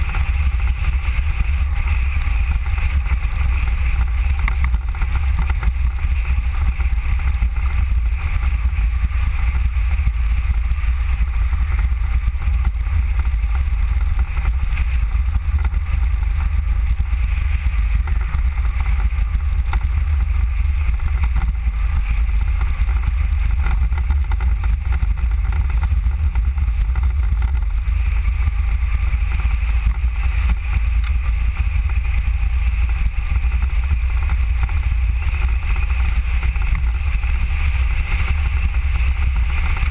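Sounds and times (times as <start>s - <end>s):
tyre noise on asphalt: 0.0s - 39.9s
wind buffeting microphone: 0.0s - 39.9s.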